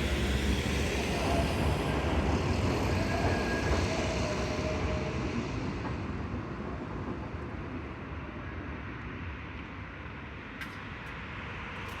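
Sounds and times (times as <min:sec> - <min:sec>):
tram rumbling: 0:00.0 - 0:12.0.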